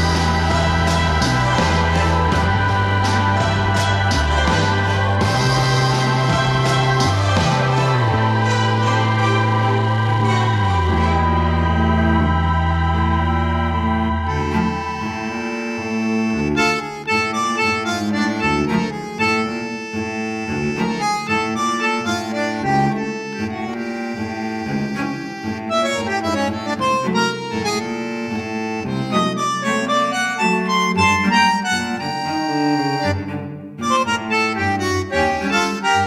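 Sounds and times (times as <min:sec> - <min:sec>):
instrumental tune with reedy melody: 0:00.0 - 0:36.0.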